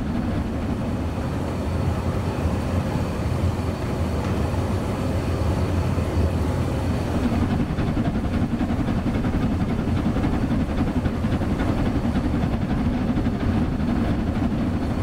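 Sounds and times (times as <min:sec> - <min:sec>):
steam locomotive rumbling and clattering: 0:00.0 - 0:15.0.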